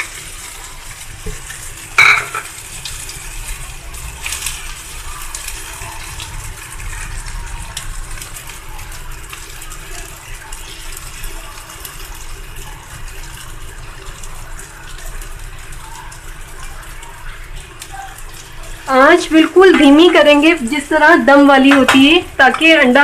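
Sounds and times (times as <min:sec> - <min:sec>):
batter sizzling in oil: 0:00.0 - 0:23.0.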